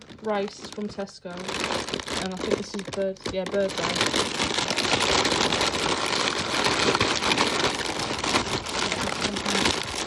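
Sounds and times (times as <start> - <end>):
plastic bags rustling: 0.0 - 10.0.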